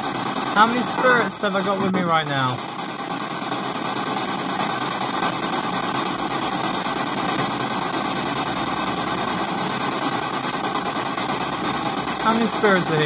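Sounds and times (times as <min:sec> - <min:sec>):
loud radio static hiss: 0:00.0 - 0:13.0.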